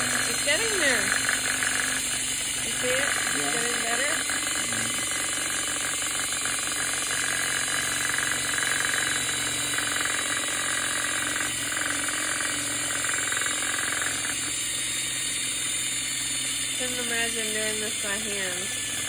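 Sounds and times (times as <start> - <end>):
cordless drill motor running: 0.0 - 19.0.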